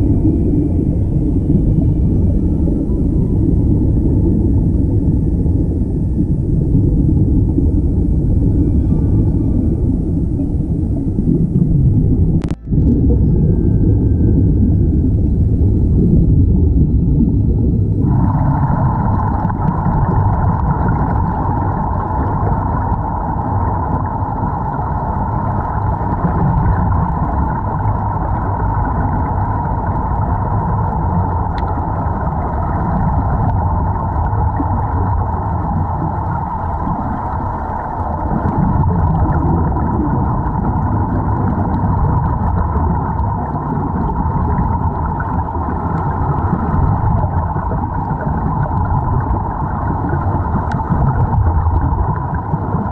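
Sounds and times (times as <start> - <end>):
low rumble: 0.0 - 52.9
muffled underwater bubbles rushing: 0.0 - 52.9.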